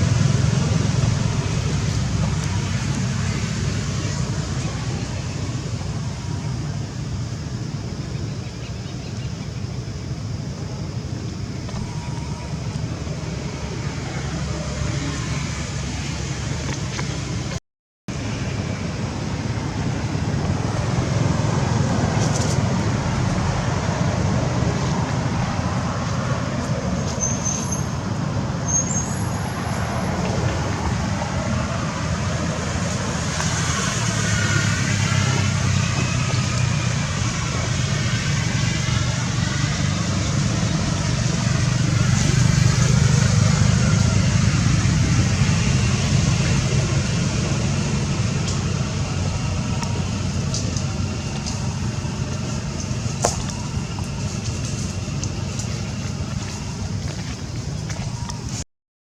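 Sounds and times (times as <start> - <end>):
vehicle passing close: 0.0 - 7.2, 18.2 - 58.6
passing vehicles rumbling: 0.0 - 58.6.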